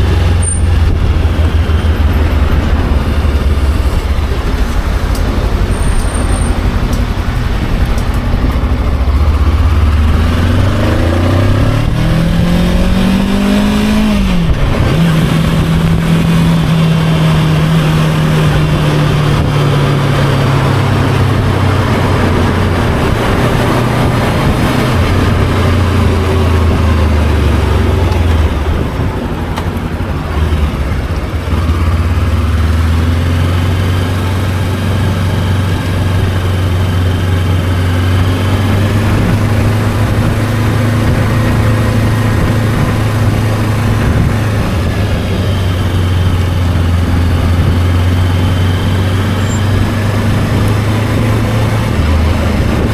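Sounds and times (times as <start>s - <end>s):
motorcycle engine accelerating: 0.0s - 52.9s
wind and road noise: 0.0s - 52.9s.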